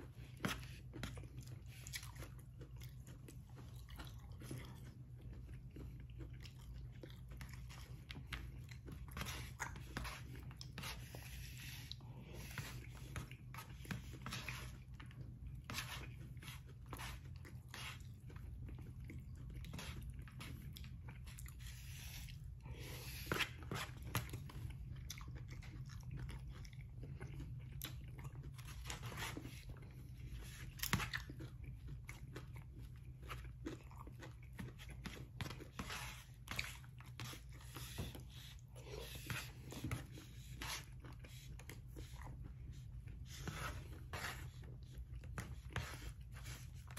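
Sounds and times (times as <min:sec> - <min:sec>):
person chewing: 0:00.0 - 0:46.9.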